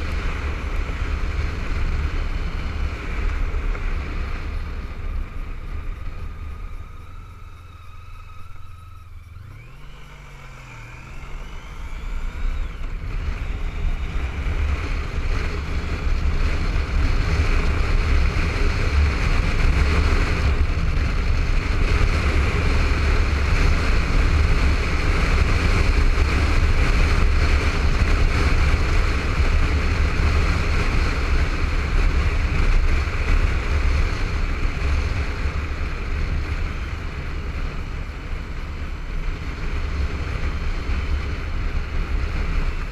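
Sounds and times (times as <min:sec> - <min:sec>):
motorcycle engine accelerating: 0:00.0 - 0:42.9
wind rush on camera: 0:00.0 - 0:42.9.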